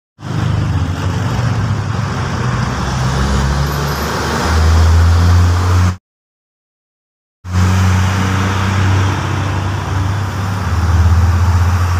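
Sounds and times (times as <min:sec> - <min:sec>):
diesel truck engine: 0:00.2 - 0:06.0, 0:07.5 - 0:11.9.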